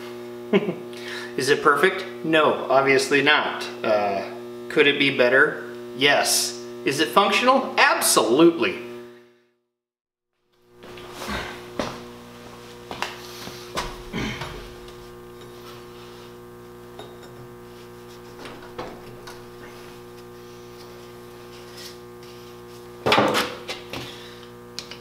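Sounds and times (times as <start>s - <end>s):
steady electrical hum: 0.0s - 9.3s, 10.5s - 25.0s.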